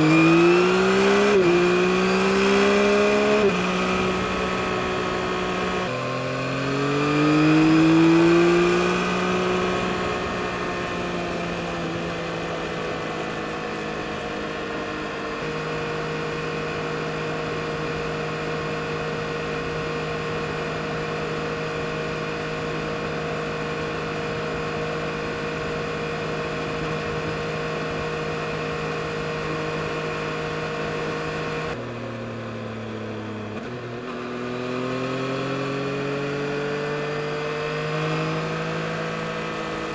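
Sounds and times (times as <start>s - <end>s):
motorcycle engine revving: 0.0s - 31.8s, 33.0s - 39.9s.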